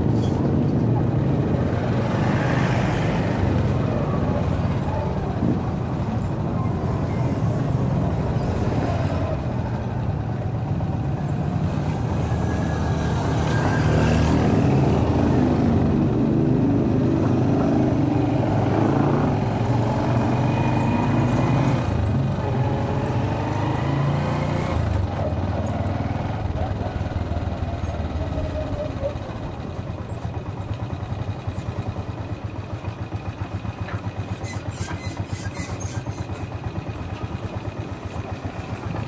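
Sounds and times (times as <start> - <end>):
motorcycle engine running: 0.0 - 39.0
road and traffic noise: 0.0 - 39.0.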